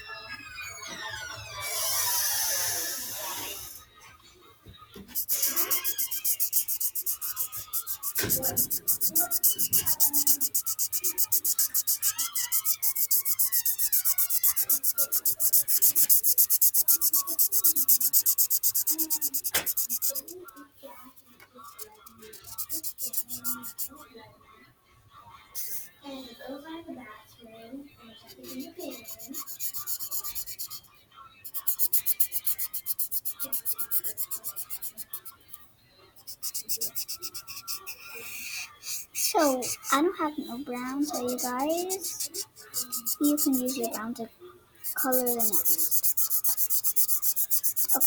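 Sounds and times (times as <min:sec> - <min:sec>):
colouring strokes on paper: 0:01.6 - 0:03.8, 0:05.1 - 0:24.0, 0:25.6 - 0:26.0, 0:28.2 - 0:48.0.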